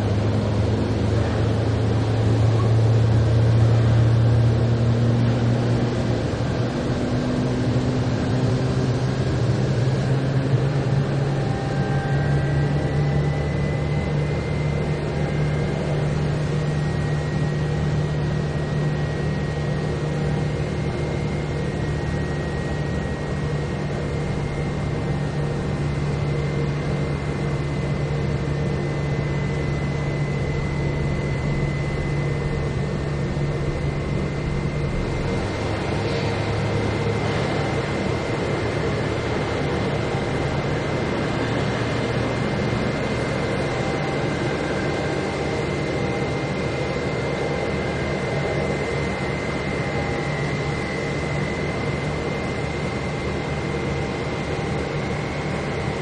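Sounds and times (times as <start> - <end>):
aircraft engine drone: 0.0 - 56.0
faint high whine: 10.6 - 56.0.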